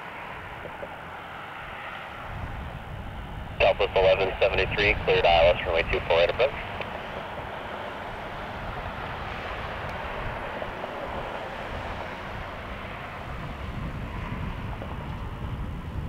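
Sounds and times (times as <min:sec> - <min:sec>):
jet engine rumble and hiss: 0:00.0 - 0:16.0
wind buffeting microphone: 0:00.0 - 0:16.0.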